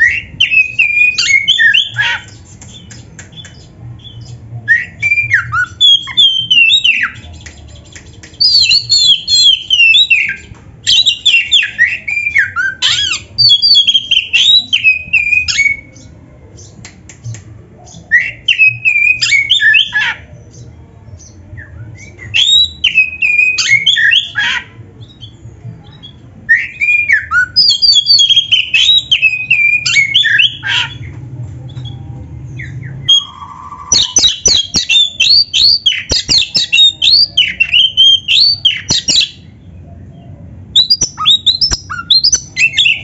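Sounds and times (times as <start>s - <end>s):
magpie-robin singing: 0.0s - 16.9s, 17.8s - 43.0s.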